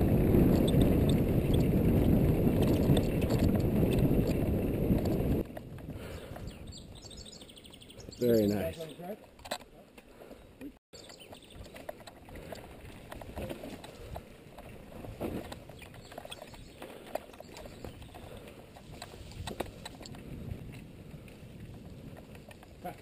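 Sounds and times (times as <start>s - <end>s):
bike knocking and rattling: 0.0s - 6.5s, 11.0s - 23.0s
bike tyre rumble on dirt: 0.0s - 7.3s, 11.0s - 23.0s.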